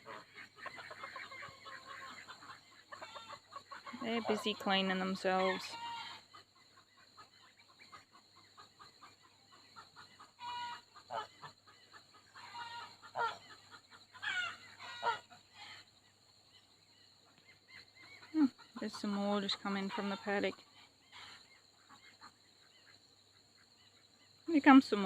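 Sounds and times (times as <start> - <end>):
poultry calling: 0.0 - 24.2
faint poultry chattering: 0.0 - 25.0.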